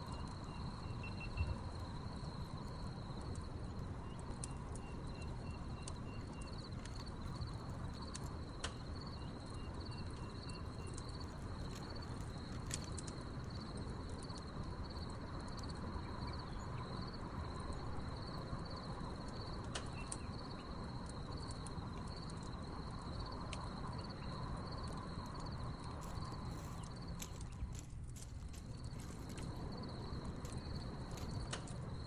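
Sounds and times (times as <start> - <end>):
crickets chirping: 0.0 - 32.0
wood fire crackling: 0.0 - 32.0.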